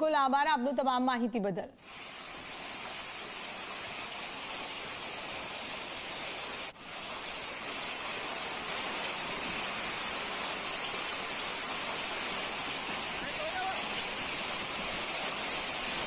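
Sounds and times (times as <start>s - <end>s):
heavy rain with hail: 1.8s - 16.0s.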